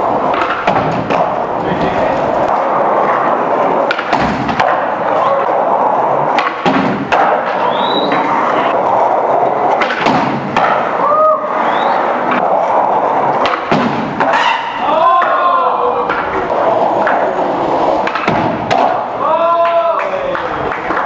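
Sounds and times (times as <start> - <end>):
skateboard thuds and clacks: 0.0 - 5.1, 6.1 - 8.4, 9.6 - 11.0, 12.2 - 15.4, 16.0 - 21.0
skate wheels rolling: 0.0 - 21.0.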